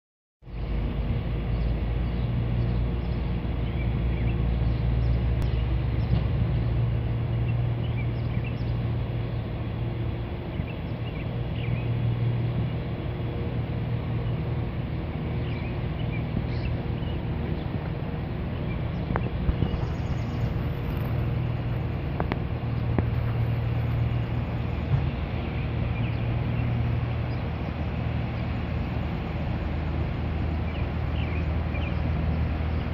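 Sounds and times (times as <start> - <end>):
riverboat engine rumble: 0.4 - 32.9
birds chirping: 1.4 - 32.9.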